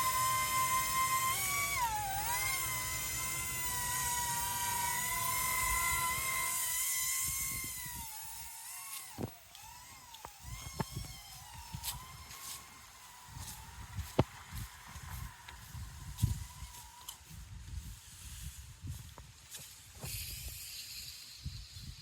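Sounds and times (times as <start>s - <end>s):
toy helicopter rotor whining: 0.0s - 17.4s, 20.0s - 22.0s.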